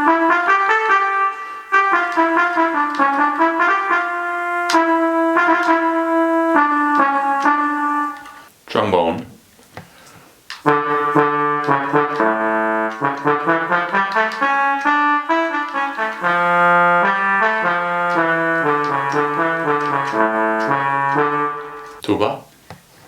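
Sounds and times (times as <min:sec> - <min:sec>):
synthesized trombone melody: 0:00.0 - 0:08.5, 0:10.6 - 0:22.0.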